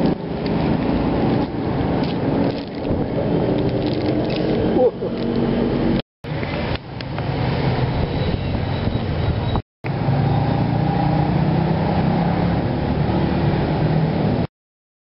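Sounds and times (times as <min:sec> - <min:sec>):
street traffic noise: 0:00.0 - 0:14.5.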